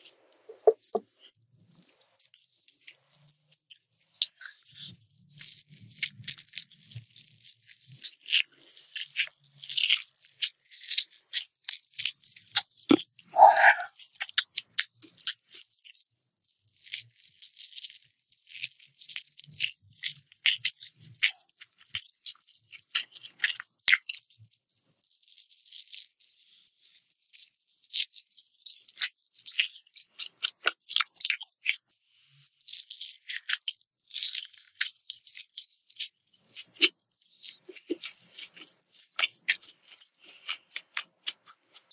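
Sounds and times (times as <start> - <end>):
crunching and chewing: 0.8 - 41.9.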